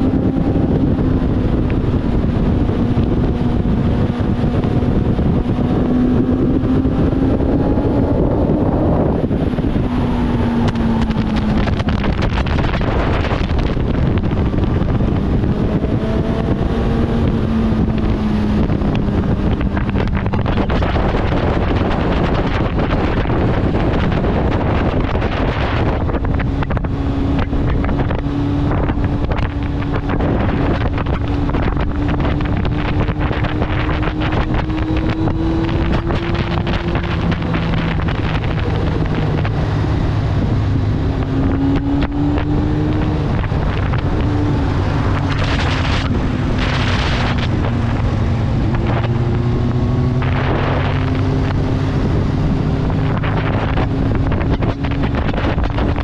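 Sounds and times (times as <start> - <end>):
motorcycle engine: 0.0 - 56.0
wind noise on microphone: 0.0 - 56.0.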